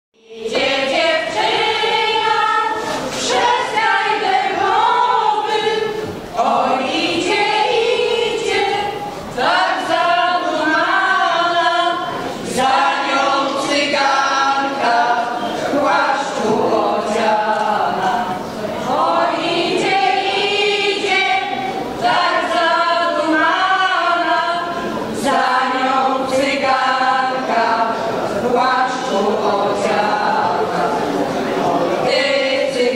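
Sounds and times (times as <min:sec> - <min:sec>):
women singing a cappella: 0:00.2 - 0:32.9.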